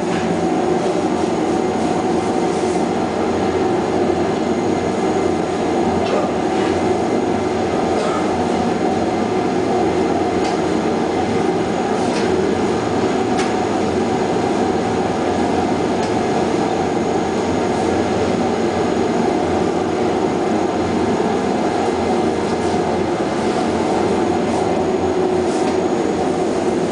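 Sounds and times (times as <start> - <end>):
steady machine drone: 0.0 - 26.9.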